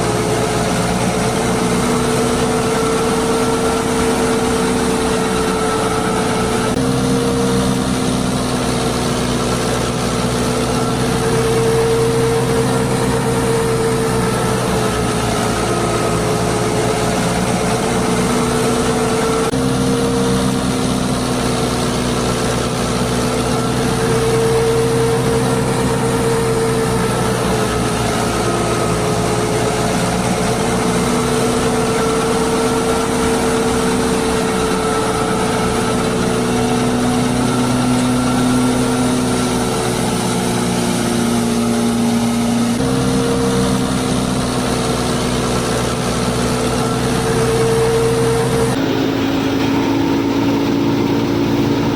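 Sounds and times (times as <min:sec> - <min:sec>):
small electric motor whine: 0:00.0 - 0:51.9.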